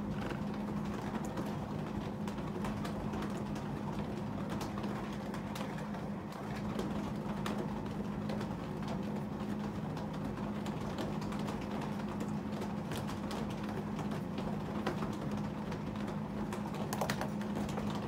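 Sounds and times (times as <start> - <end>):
ceiling fan humming: 0.0 - 18.0.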